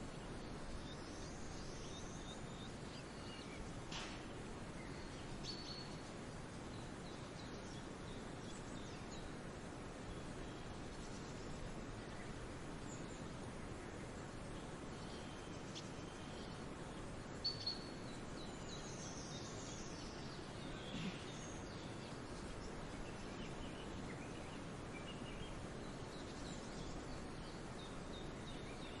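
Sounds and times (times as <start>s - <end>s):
faint bird chirps: 0.0s - 9.4s, 10.0s - 29.0s
outdoor background hiss: 0.0s - 29.0s.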